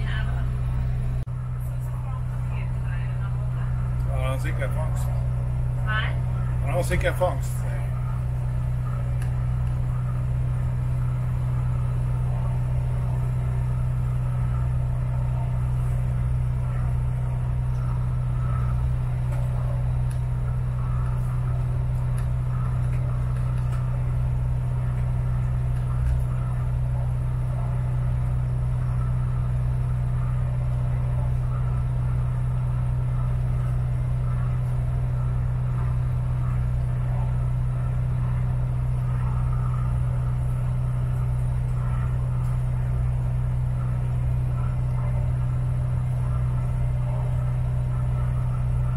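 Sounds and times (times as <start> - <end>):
motorboat engine droning: 0.0 - 48.9.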